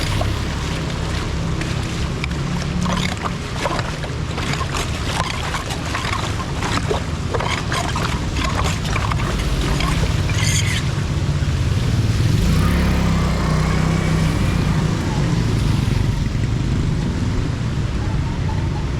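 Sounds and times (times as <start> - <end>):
short splashes and knocks: 0.0 - 16.6
floodwater and rain splashing: 0.0 - 18.0
wind rumble on microphone: 0.0 - 18.9.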